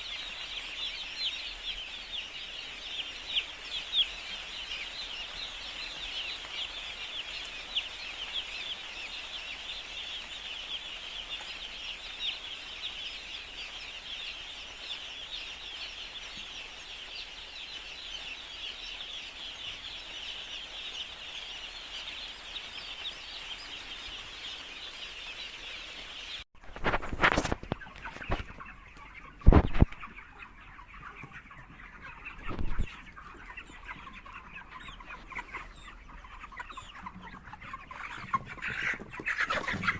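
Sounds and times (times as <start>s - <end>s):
chickens calling: 0.0s - 39.9s.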